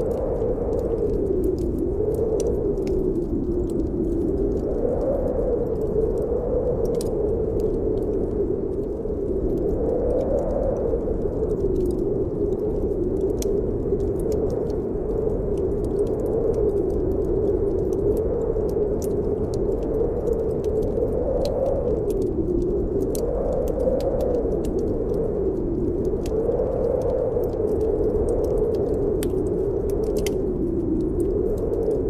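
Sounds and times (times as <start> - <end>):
wind howling: 0.0 - 32.0
wood fire crackling: 0.0 - 32.0.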